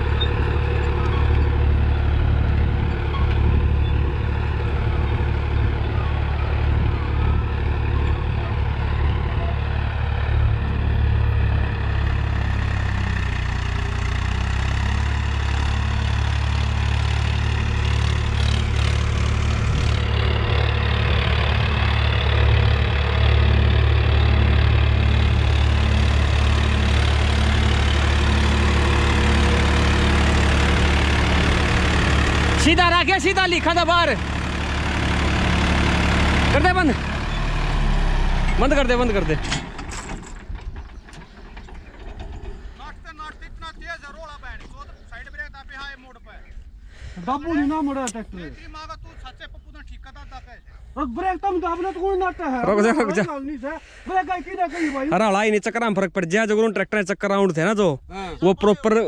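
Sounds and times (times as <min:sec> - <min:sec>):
tractor diesel engine under load: 0:00.0 - 0:45.9, 0:46.6 - 0:56.4.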